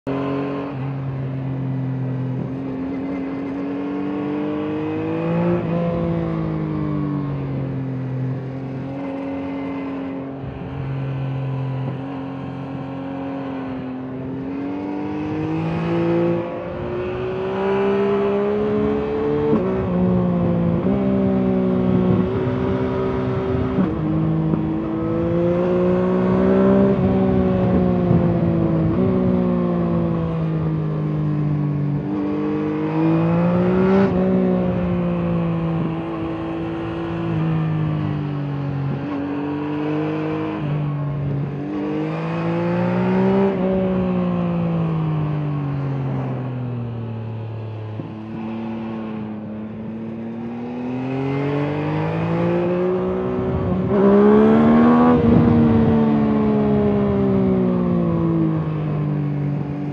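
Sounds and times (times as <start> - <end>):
motorcycle engine revving: 2.0 - 59.9.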